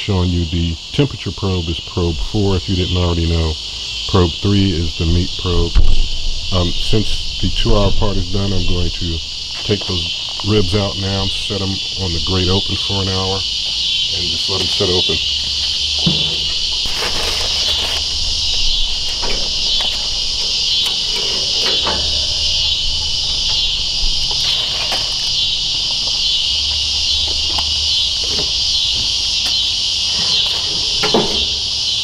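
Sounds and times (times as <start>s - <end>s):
faint low hum: 0.0s - 31.7s
insects chorus droning: 0.0s - 32.0s.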